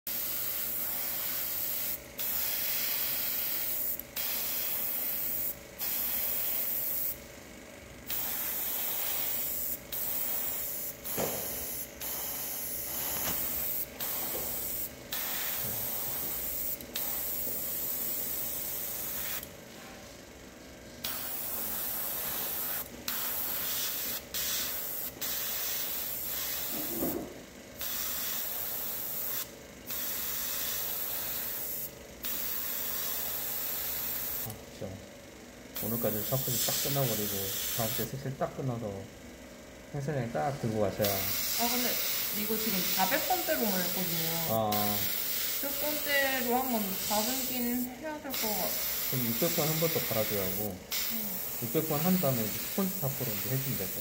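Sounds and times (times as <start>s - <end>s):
airbrush spraying hiss: 0.1s - 7.2s, 8.0s - 19.5s, 21.0s - 34.6s, 35.8s - 38.1s, 41.0s - 54.0s.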